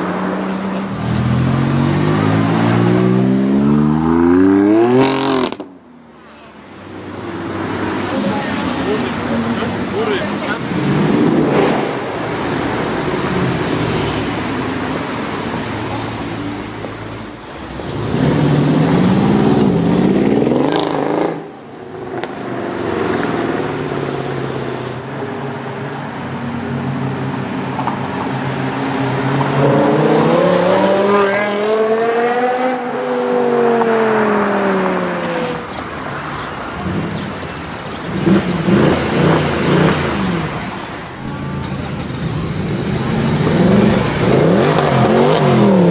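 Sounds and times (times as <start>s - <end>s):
car engines revving past: 0.0s - 5.8s, 6.8s - 45.9s.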